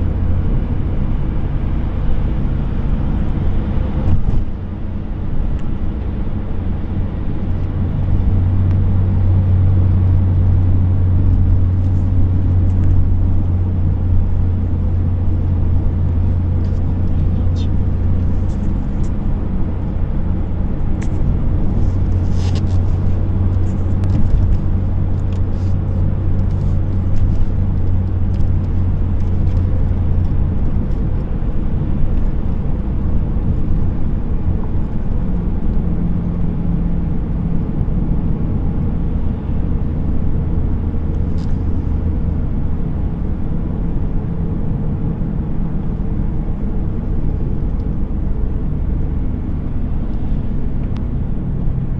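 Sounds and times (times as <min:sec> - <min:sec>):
car engine and tyre rumble: 0:00.0 - 0:51.9.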